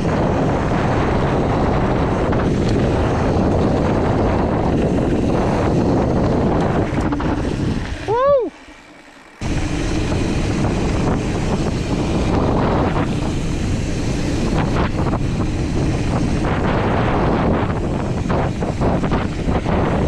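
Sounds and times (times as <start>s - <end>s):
wind buffeting microphone: 0.0s - 8.4s, 9.4s - 20.0s
bike rattles and knocks: 0.0s - 20.0s
tyres rumbling on dirt trail: 0.0s - 20.0s.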